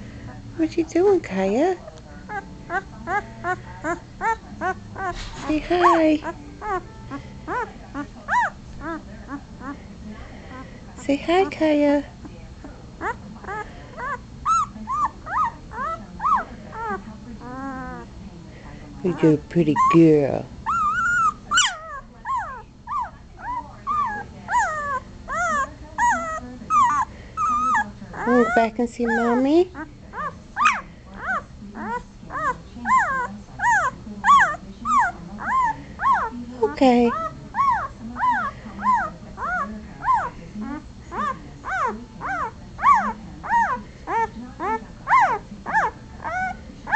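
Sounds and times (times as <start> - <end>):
puppy whimpering: 2.3 - 9.8, 13.0 - 18.1, 19.1 - 46.9.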